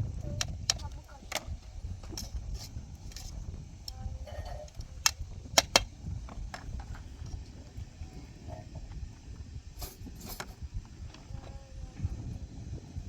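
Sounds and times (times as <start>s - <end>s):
low rumbling background: 0.0s - 13.0s.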